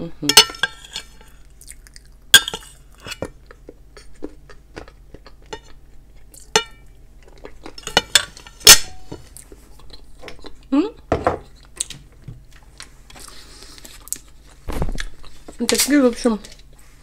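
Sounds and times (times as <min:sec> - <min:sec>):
soft chewing: 0:00.8 - 0:08.6, 0:09.2 - 0:17.0.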